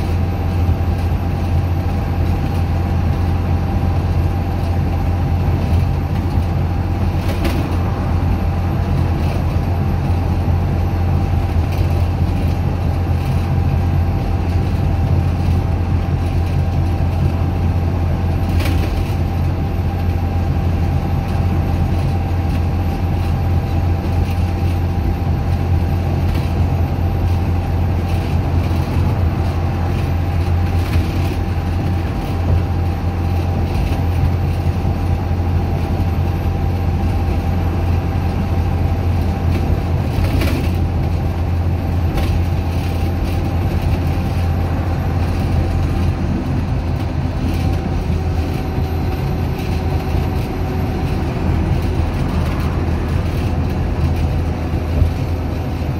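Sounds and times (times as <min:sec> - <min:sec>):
bus engine drone: 0:00.0 - 0:55.9
road noise: 0:00.0 - 0:55.9.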